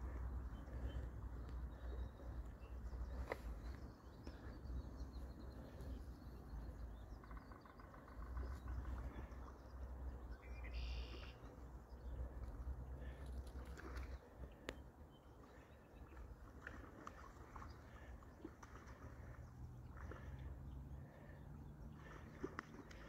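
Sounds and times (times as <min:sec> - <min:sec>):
birds calling: 0:00.0 - 0:23.0.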